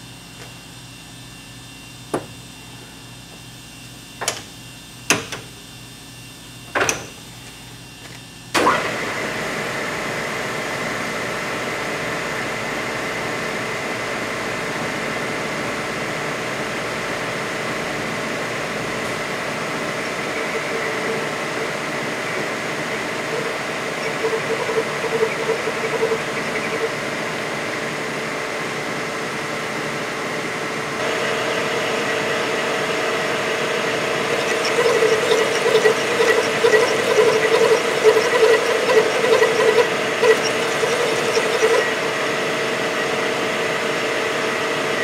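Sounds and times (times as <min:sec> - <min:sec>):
metal lathe humming and whining: 0:08.9 - 0:45.0.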